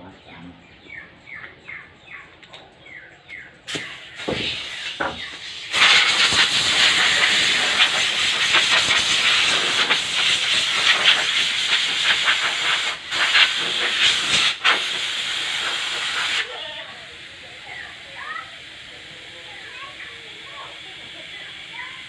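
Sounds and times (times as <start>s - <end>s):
loud compressed air hiss: 3.7s - 22.0s.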